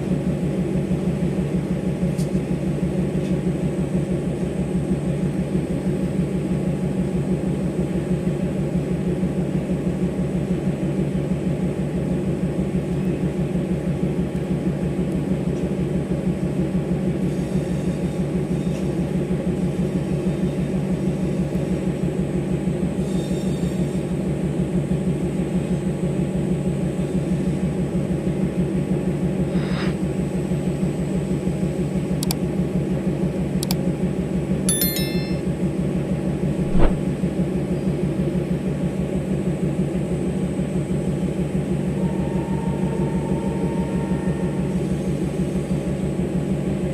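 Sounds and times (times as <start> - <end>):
diesel locomotive engine rumbling: 0.0 - 34.6, 36.3 - 46.9.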